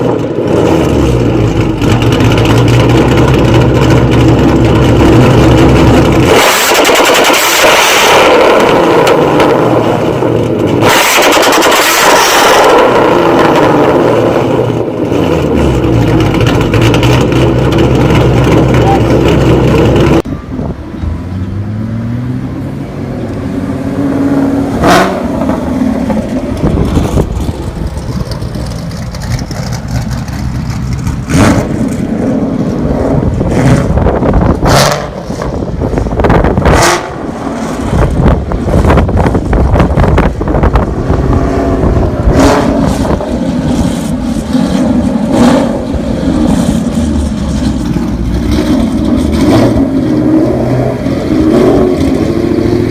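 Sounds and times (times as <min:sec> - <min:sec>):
car engine revving: 0:00.0 - 0:20.3, 0:21.1 - 0:52.9.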